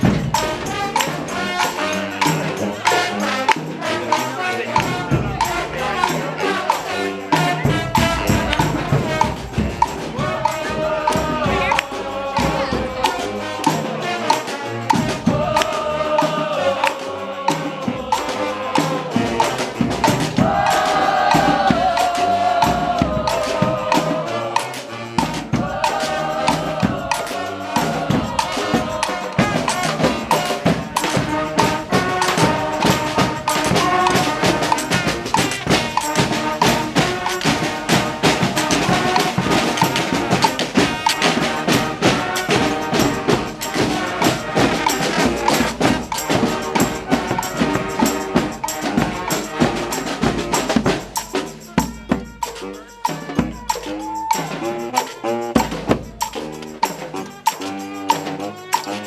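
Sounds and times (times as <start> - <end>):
drums and hand percussion: 0.0 - 59.0
horns playing melody: 0.0 - 59.0.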